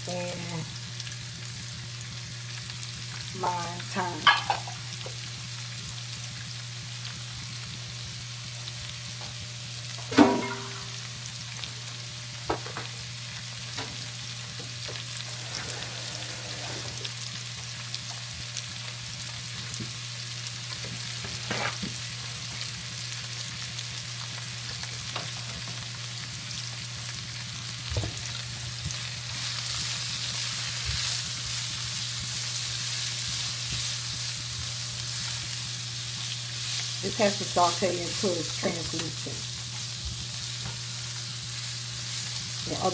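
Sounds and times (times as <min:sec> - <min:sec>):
onions sizzling in hot oil: 0:00.0 - 0:42.9.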